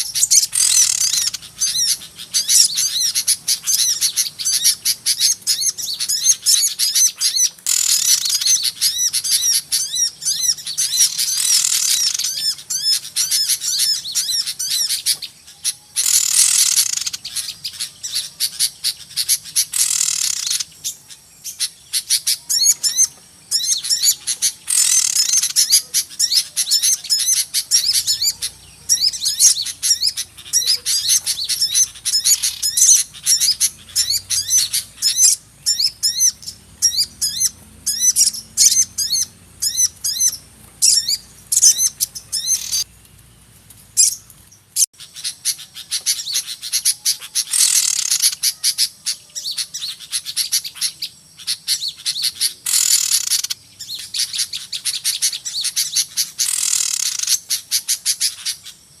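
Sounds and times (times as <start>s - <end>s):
small birds chirping and twittering: 0.0s - 59.0s.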